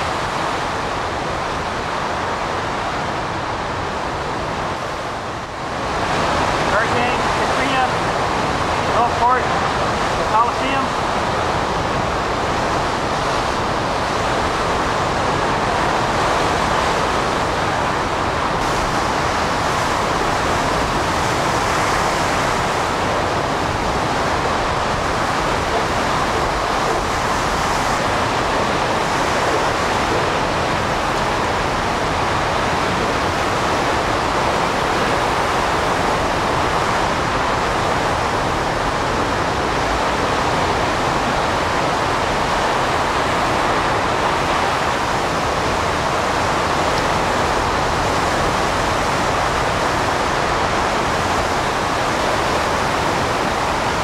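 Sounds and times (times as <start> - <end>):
strong wind with heavy rain: 0.0 - 54.0.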